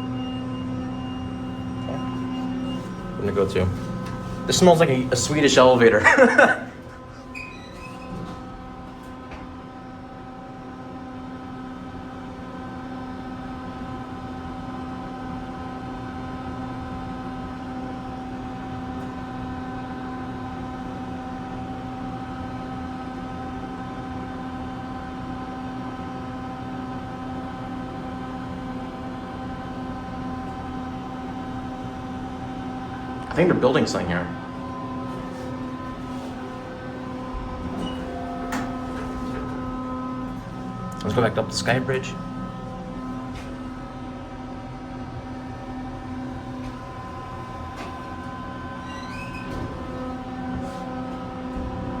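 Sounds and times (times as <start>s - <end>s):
elevator mechanical hum: 0.0s - 52.0s.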